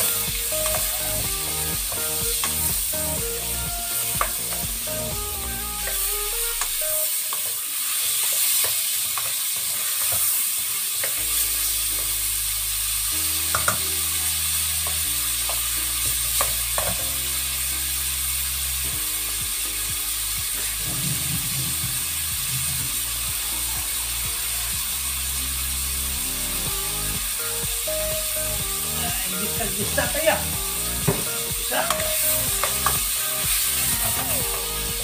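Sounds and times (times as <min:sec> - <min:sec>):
background music bass line: 0:00.0 - 0:07.1, 0:11.2 - 0:35.0
food sizzling in a pot: 0:00.0 - 0:35.0.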